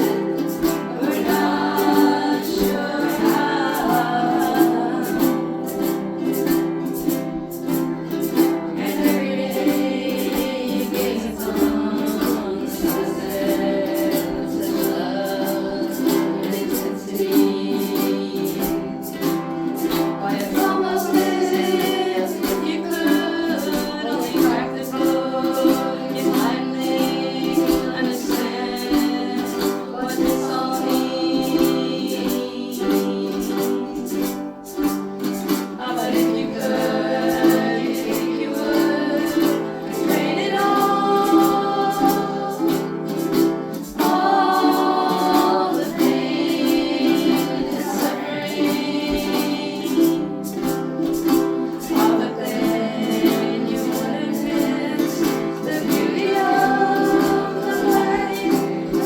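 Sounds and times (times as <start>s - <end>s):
group singing in unison: 0.0s - 59.0s
ukuleles strumming: 0.0s - 59.0s.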